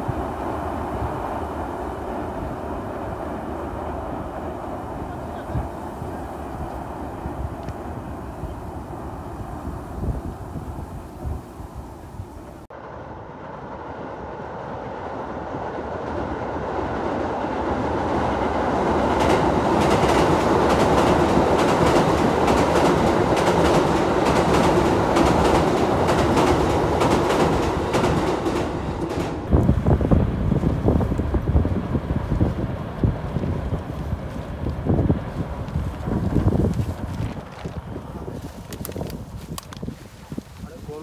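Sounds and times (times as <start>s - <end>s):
wind buffeting microphone: 0.0s - 12.7s, 17.5s - 41.0s
train rumbling over bridge: 0.0s - 41.0s.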